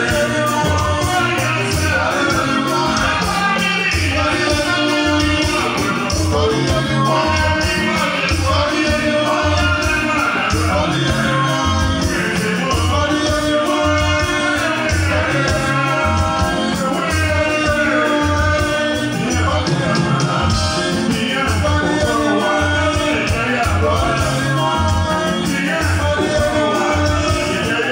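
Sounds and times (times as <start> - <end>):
person singing: 0.0 - 27.9
repeating bass line: 0.0 - 27.9.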